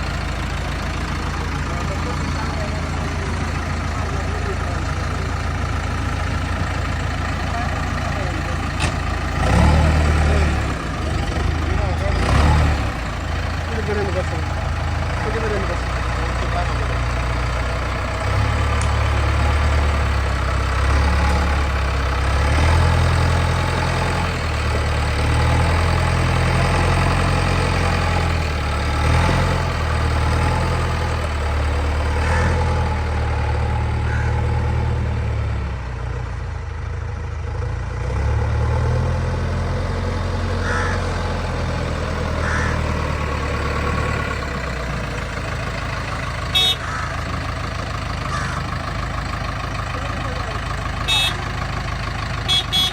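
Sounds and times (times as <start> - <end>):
diesel engine rumbling: 0.0 - 52.9.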